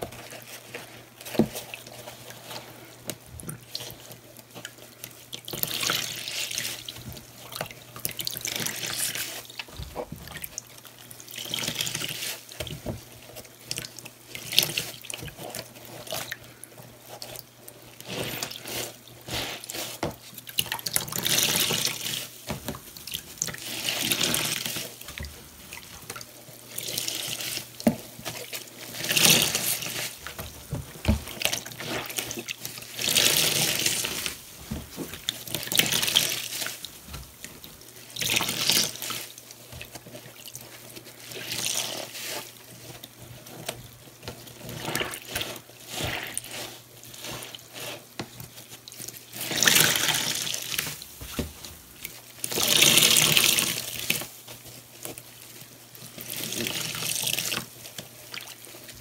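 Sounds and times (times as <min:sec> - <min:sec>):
sponges squeezed in soapy water: 0:00.0 - 0:59.0.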